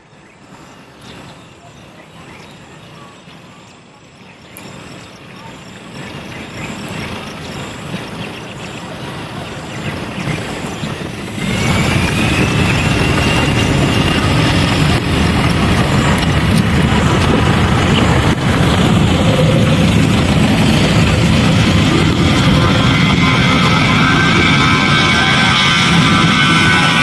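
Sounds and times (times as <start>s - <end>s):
aircraft engines running: 0.0s - 27.0s.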